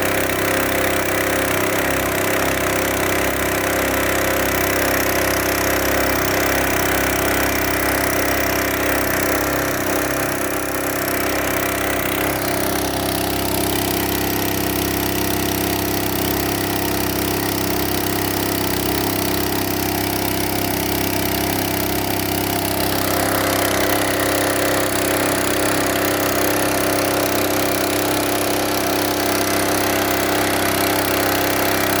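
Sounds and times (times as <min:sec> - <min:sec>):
generator engine running: 0:00.0 - 0:32.0.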